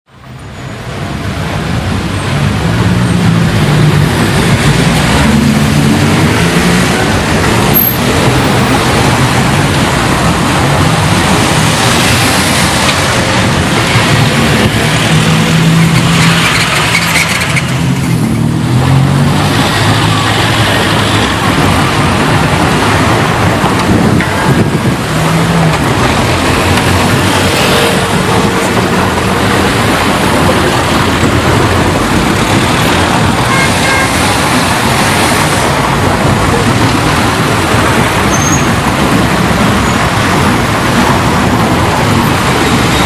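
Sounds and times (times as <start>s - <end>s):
cars passing: 0.1s - 43.0s.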